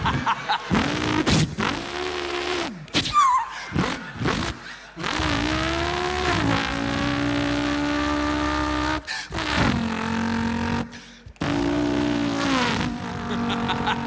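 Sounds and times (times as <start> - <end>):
man imitating car engine: 0.0 - 14.0.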